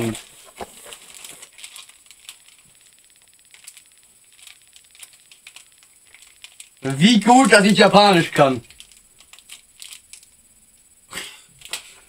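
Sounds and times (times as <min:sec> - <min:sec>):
plastic snack packets rustling: 0:00.0 - 0:10.4, 0:11.5 - 0:12.0.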